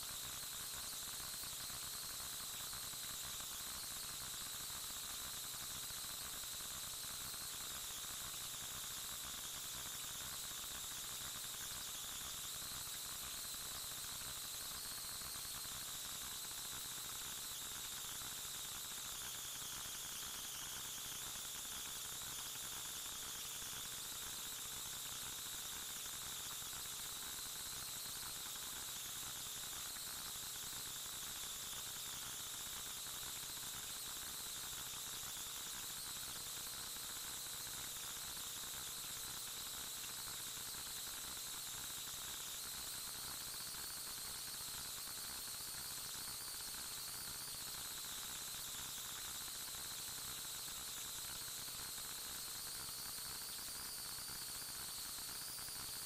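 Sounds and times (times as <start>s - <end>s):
faint high-pitched whining tones: 0.0s - 56.0s.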